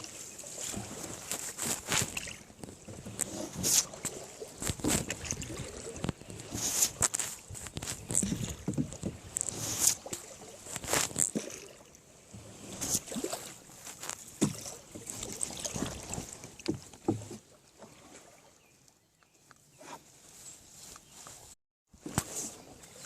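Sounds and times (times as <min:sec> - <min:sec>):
water splashing and sloshing: 0:00.0 - 0:23.0.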